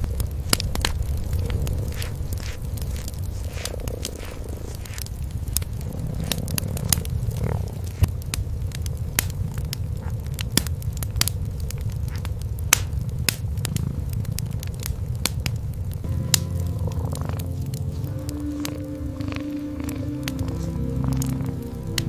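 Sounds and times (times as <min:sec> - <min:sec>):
cats purring: 0:00.0 - 0:22.0
wood fire crackling and popping: 0:00.0 - 0:22.0.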